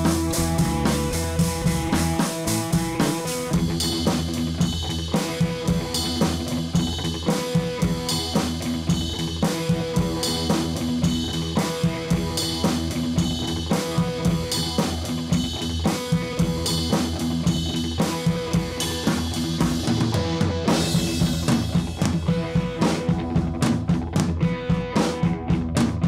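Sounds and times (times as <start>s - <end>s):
drum beat with guitar: 0.0s - 26.0s.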